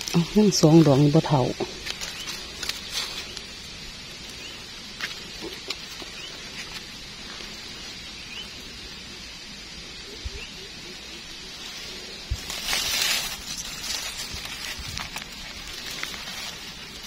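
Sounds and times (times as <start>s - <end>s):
steady high outdoor hiss: 0.0s - 17.0s.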